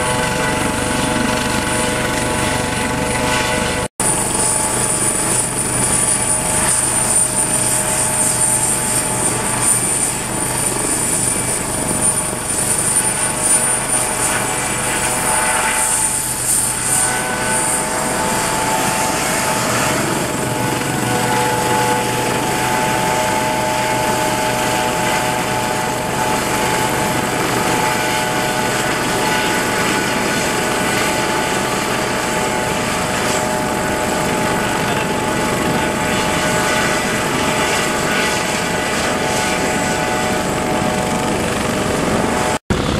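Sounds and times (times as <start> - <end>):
helicopter rotor noise: 0.0 - 42.9
helicopter turbine whine: 0.0 - 42.9.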